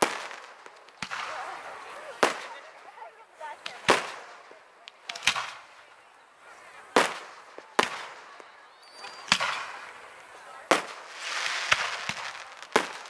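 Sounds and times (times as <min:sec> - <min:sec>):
fireworks bangs echoing: 0:00.0 - 0:06.0, 0:06.6 - 0:13.0.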